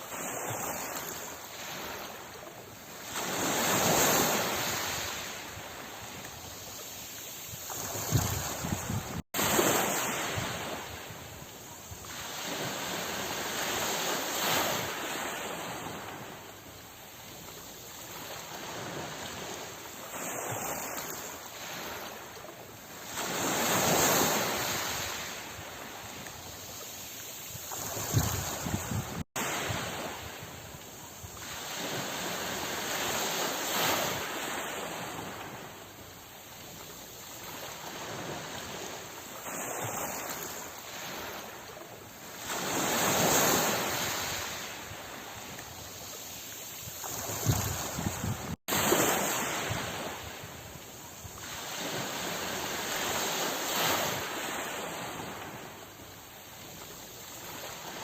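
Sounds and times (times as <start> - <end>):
sea waves surging: 0.0 - 58.0.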